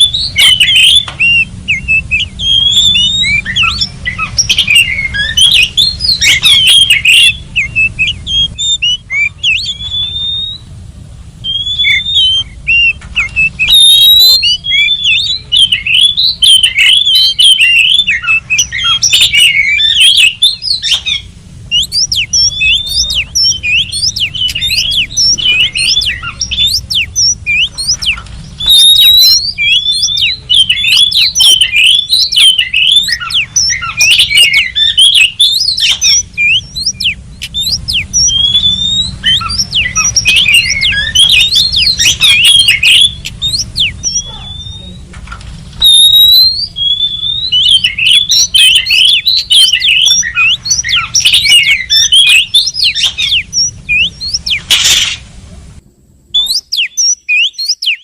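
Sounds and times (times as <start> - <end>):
bird singing whistled notes: 0.0 - 10.7, 11.4 - 45.1, 45.8 - 55.1, 56.4 - 58.0
low steady hum: 0.0 - 58.0.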